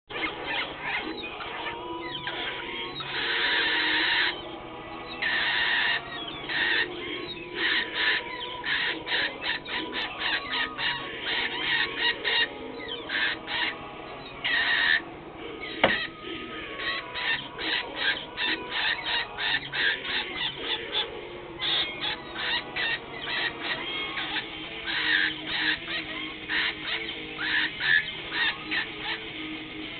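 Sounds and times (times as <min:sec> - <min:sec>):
cockatiel chirps and squawks: 0:00.1 - 0:15.0, 0:15.6 - 0:29.3.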